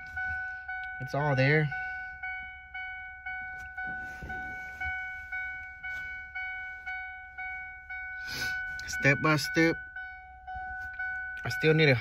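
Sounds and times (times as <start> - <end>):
car warning chime dinging: 0.0 - 12.0.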